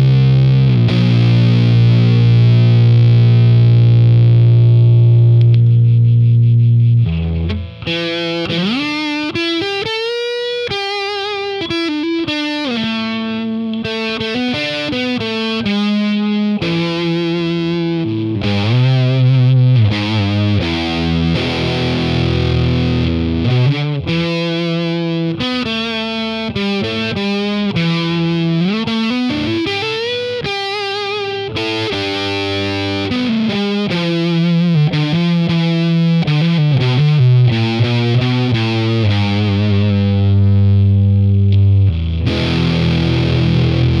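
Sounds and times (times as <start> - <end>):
distorted electric guitar riffing: 0.0 - 44.0.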